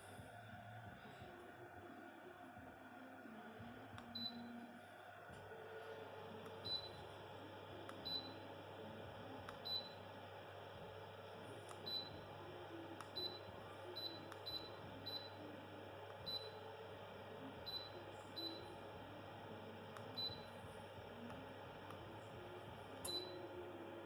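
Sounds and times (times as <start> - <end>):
electric fireplace humming: 0.0 - 24.0.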